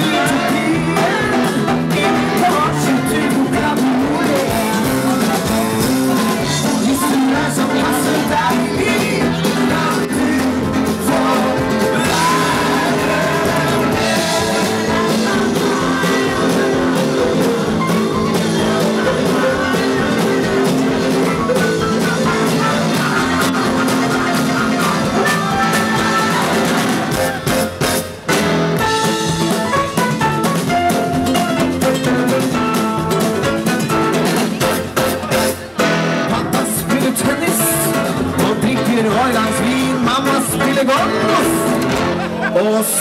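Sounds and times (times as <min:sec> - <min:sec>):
person singing: 0:00.0 - 0:27.7, 0:28.9 - 0:43.0
live rock band playing: 0:00.0 - 0:43.0.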